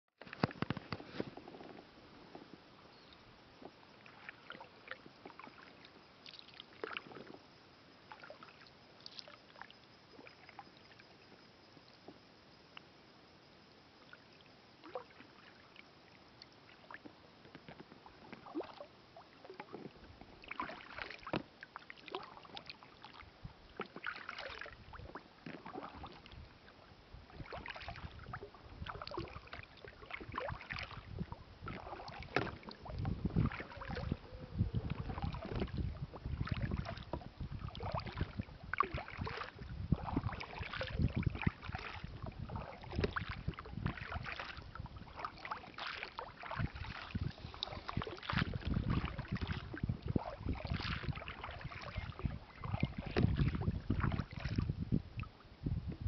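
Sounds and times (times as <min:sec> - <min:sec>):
paddle splashing water: 0:03.2 - 0:11.3, 0:14.0 - 0:56.0.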